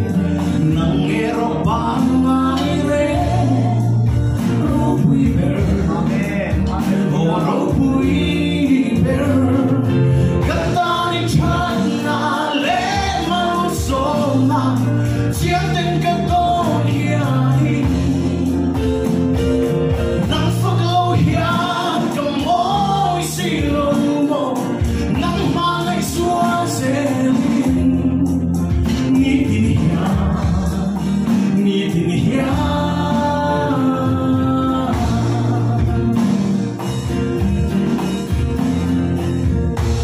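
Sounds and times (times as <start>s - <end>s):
men and women singing: 0.0s - 19.2s, 20.1s - 36.6s
acoustic guitar: 0.0s - 40.0s
electric bass: 0.0s - 40.0s
electronic drum kit: 0.0s - 40.0s
keyboard: 0.0s - 40.0s.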